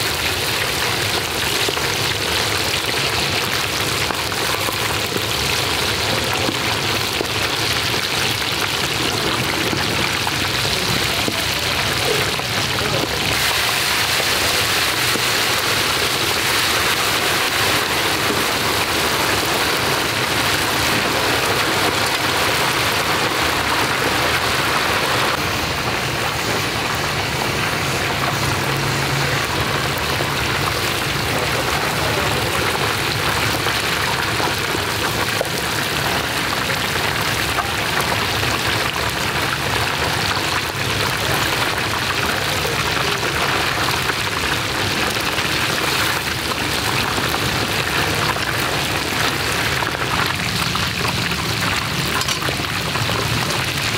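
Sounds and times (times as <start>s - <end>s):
fish sizzling in hot oil: 0.0s - 53.9s.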